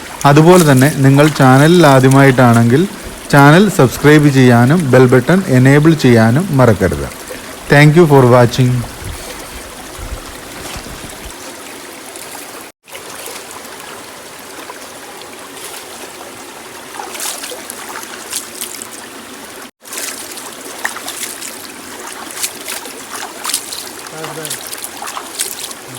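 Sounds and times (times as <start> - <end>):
small splashes and drips: 0.0 - 25.9
water flowing: 0.0 - 25.9.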